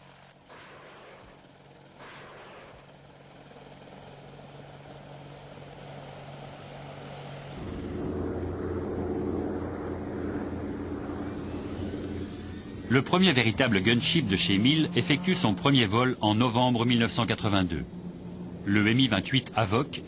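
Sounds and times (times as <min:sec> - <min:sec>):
helicopter rotor and engine: 0:00.3 - 0:20.0.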